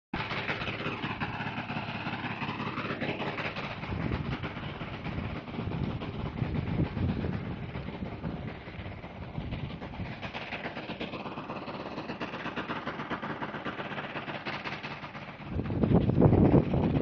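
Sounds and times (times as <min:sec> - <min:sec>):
hovercraft engine droning: 0:00.2 - 0:17.0.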